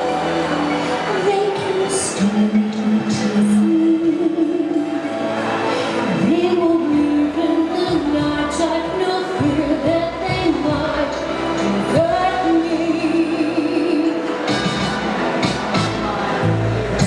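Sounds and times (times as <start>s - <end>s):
instrumental accompaniment: 0.0s - 17.0s
woman singing slow song: 0.8s - 14.5s.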